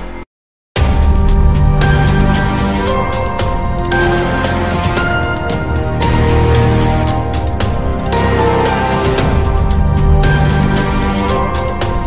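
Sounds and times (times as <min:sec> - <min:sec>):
background music with held chords: 0:00.8 - 0:12.0
sharp percussive hits: 0:00.8 - 0:12.0.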